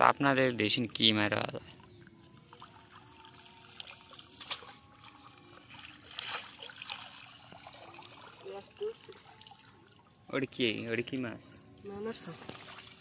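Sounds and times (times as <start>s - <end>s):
water trickling and dripping: 0.0s - 13.0s
faint water splashes: 0.6s - 11.0s, 11.6s - 13.0s.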